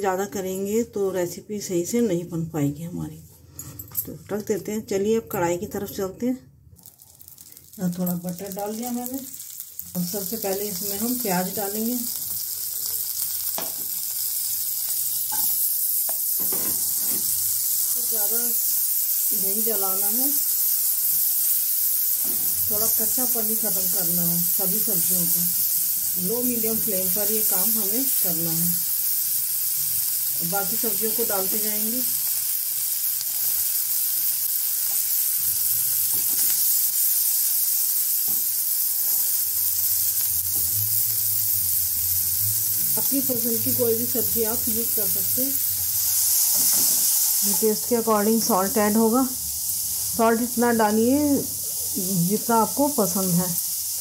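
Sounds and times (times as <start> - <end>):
butter sizzling in a pan: 6.7 - 54.0.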